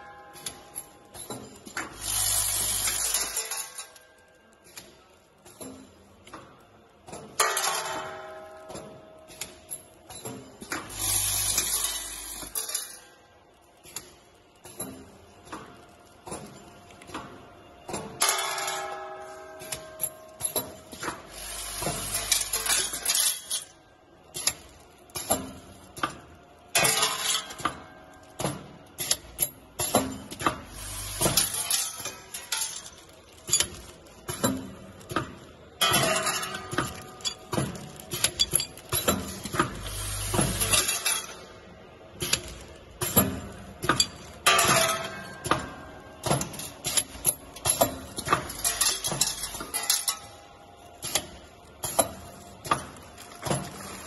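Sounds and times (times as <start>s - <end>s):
metal parts clinking through machine: 0.3s - 6.3s, 7.1s - 17.1s, 17.9s - 26.0s, 26.7s - 54.0s.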